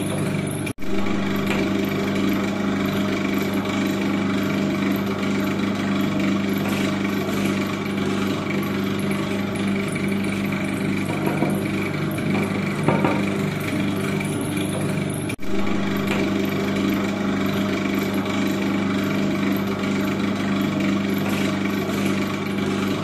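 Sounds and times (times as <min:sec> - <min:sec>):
stirring machine motor hum: 0:00.0 - 0:23.0.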